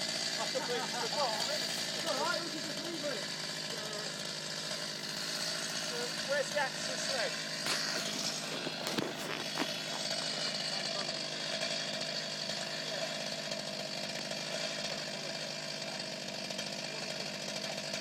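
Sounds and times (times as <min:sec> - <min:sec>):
chainsaw cutting tree: 0:00.0 - 0:18.0.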